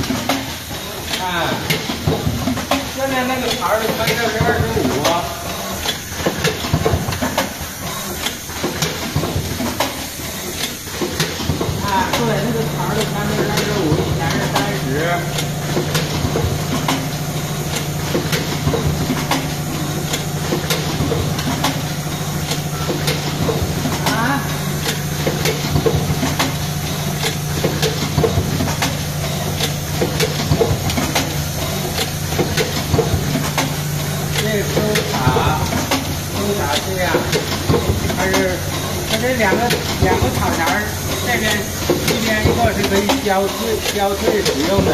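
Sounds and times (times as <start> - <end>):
machine hissing: 0.0 - 44.9.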